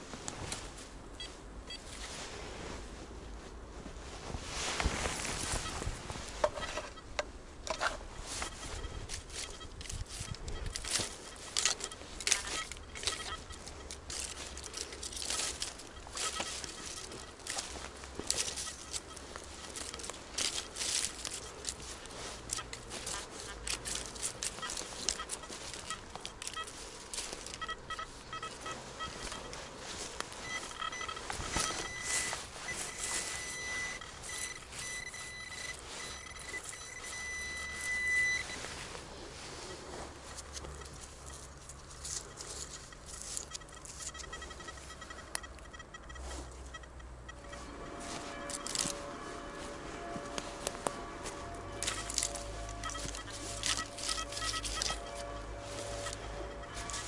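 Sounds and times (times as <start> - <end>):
metal detector beeps: 1.1 - 2.2, 4.8 - 57.0
metal detector steady high tone: 1.1 - 2.8, 4.8 - 57.0.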